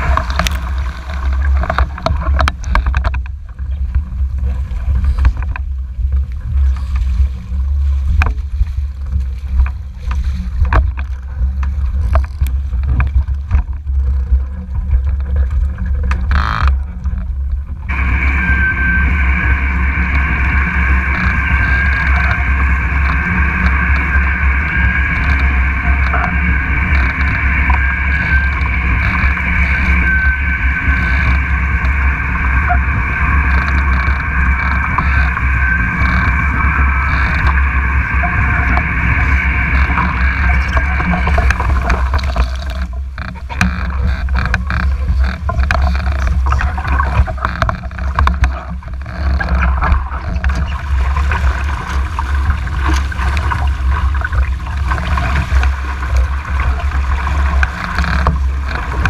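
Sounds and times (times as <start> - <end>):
steady high whine: 0.0 - 59.0
water rushing past boat: 0.0 - 59.0
water splashing and spray: 0.0 - 59.0
wind rumbling on microphone: 0.0 - 59.0.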